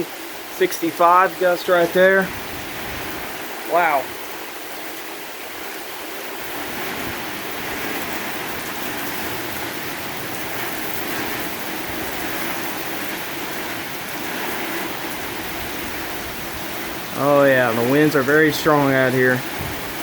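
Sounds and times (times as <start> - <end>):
rain: 0.0 - 20.0
wind gusting: 0.0 - 20.0.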